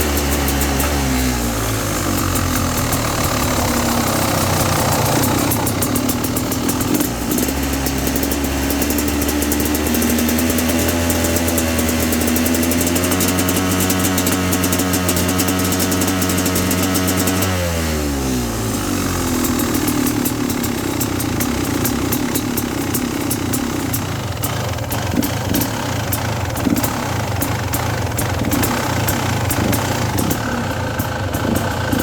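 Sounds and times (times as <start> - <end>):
motorcycle engine stuttering: 0.0 - 32.0.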